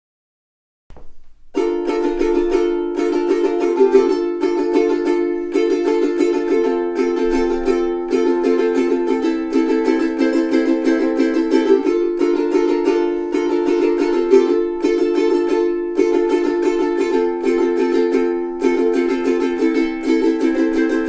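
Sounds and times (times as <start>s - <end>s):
ukulele strumming chords: 0.9s - 21.0s.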